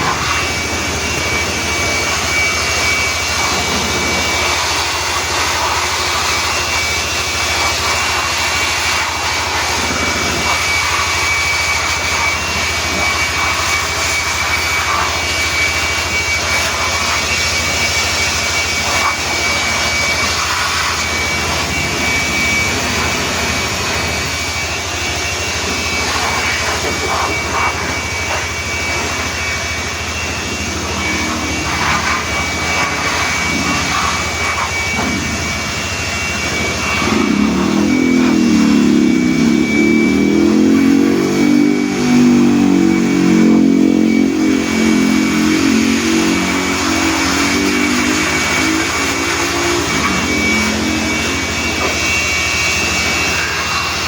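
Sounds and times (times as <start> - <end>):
car wash machinery rushing: 0.0 - 54.0
high whine: 0.0 - 54.0
low hum: 0.0 - 54.0.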